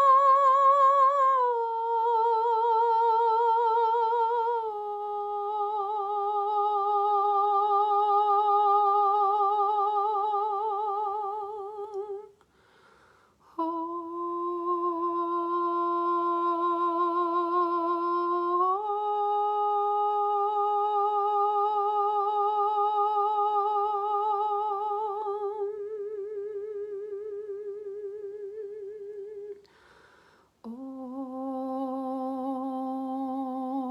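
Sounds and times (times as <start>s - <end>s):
woman singing wordless tones: 0.0s - 12.4s, 13.4s - 29.9s, 30.6s - 33.9s.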